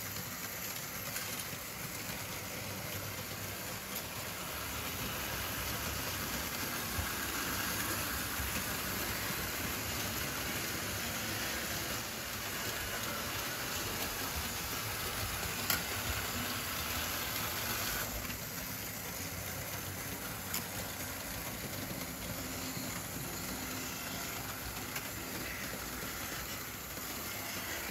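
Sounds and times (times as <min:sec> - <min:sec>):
model trains rolling on track: 0:00.0 - 0:27.9.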